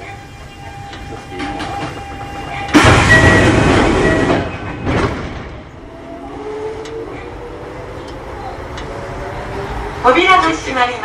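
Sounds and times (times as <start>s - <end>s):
train rushing running noise: 0.0s - 11.0s.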